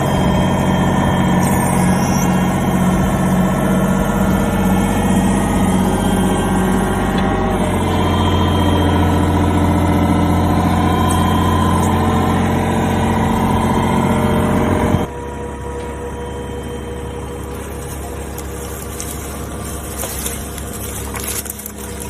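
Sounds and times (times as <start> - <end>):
mini excavator diesel engine running: 0.0 - 22.0.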